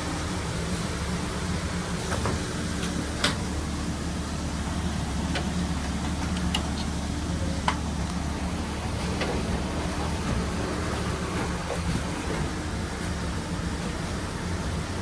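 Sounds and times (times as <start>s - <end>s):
kitchen machinery hum: 0.0s - 15.0s.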